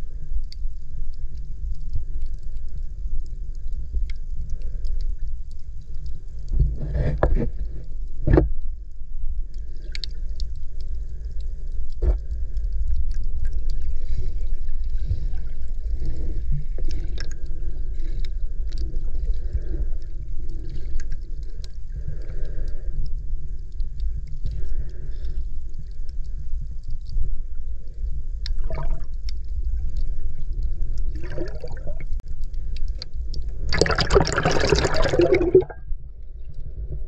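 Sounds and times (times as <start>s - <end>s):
faint clicks and crackles: 0.0s - 37.0s
underwater rumble of moving water: 0.0s - 37.0s.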